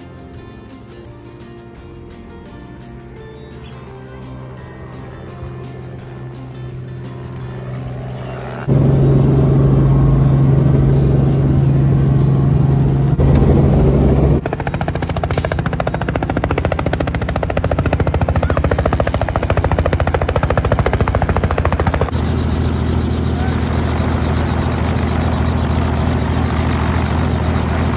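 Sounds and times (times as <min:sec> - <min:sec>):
helicopter cabin drone: 0:03.2 - 0:27.9
helicopter rotor blades chopping: 0:04.2 - 0:27.9.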